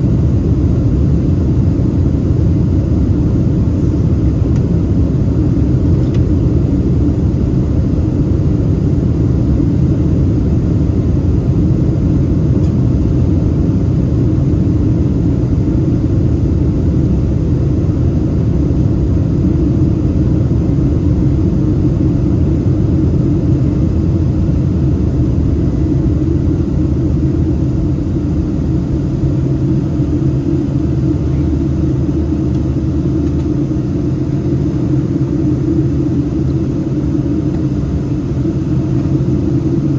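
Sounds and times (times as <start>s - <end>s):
jet engines rumbling during takeoff: 0.0s - 39.9s.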